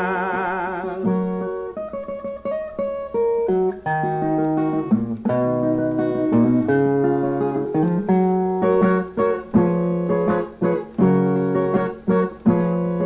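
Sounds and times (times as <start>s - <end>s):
strummed steel-strung guitar: 0.0s - 13.0s.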